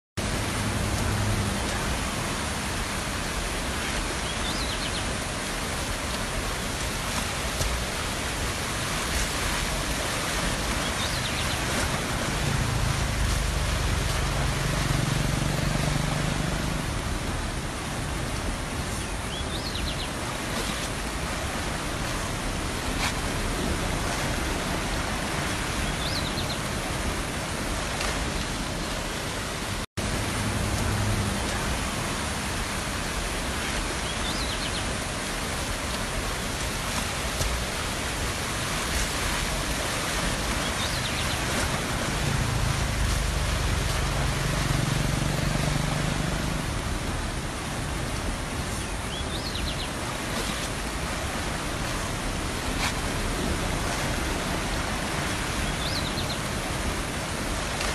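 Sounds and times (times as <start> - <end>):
flooded stream rushing: 0.2 - 57.9.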